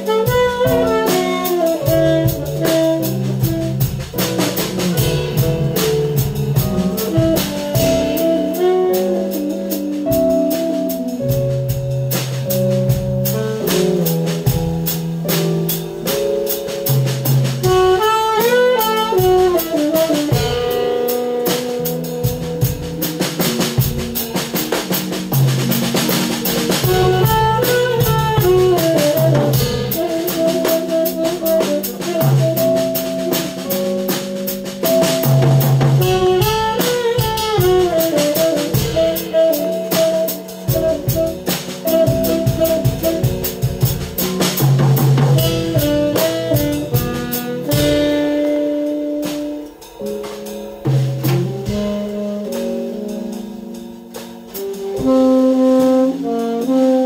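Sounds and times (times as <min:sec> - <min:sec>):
drum kit with cymbals: 0:00.0 - 0:57.0
electric keyboard: 0:00.0 - 0:57.0
saxophone: 0:00.0 - 0:57.0.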